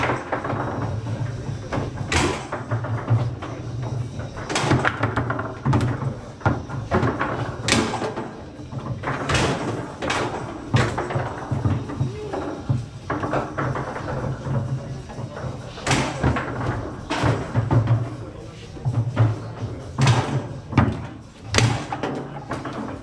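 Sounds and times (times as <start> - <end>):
foosball ball knocks: 1.7 - 18.2, 18.8 - 23.0.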